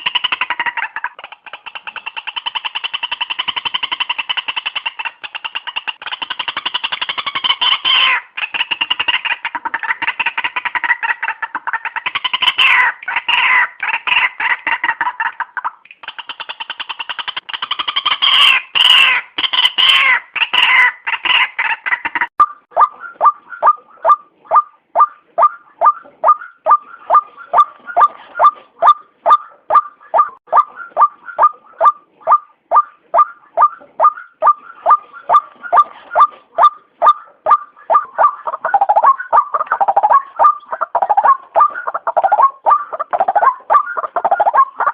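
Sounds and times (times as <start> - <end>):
waterhen calling: 0.0 - 44.9.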